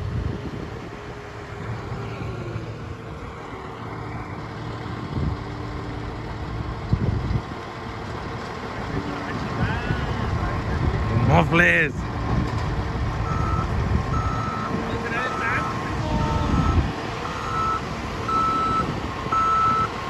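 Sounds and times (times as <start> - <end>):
large diesel engine running: 0.0 - 20.0.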